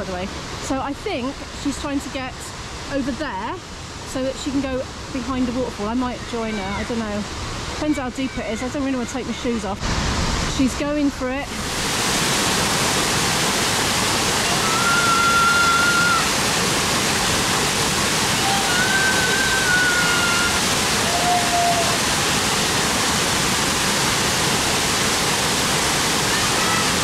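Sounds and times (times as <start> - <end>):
river rushing over rocks: 4.8 - 27.0.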